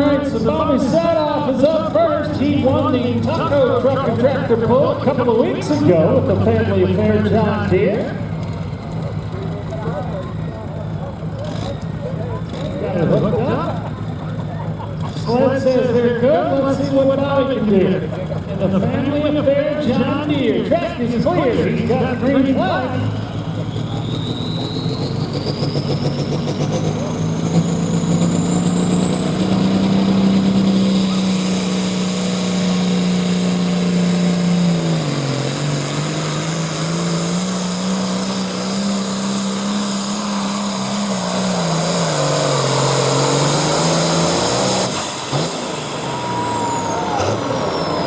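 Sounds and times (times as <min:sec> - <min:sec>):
diesel tractor engine at full power: 0:00.0 - 0:48.0.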